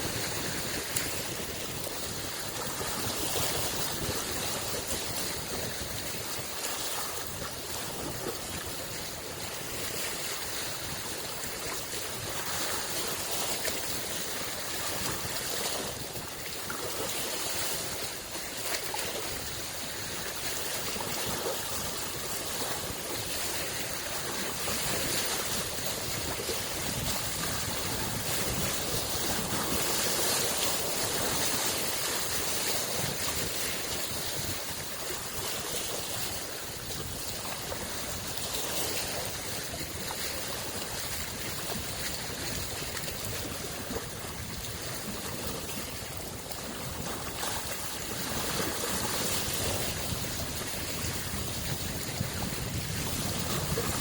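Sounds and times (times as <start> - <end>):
waves lapping at shore: 0.0 - 54.0.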